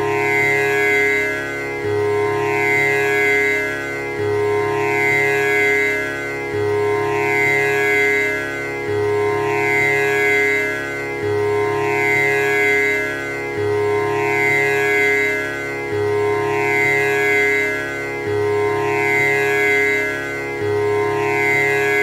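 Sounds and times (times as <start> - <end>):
tanpura drone: 0.0 - 22.0.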